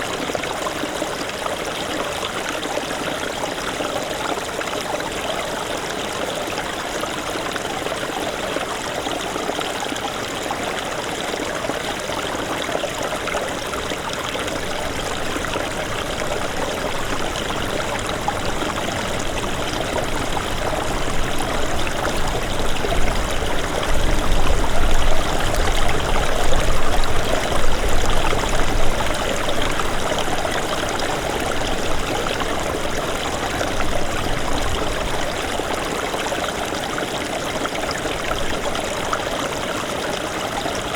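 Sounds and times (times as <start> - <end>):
stream rushing over its bed: 0.0 - 40.9.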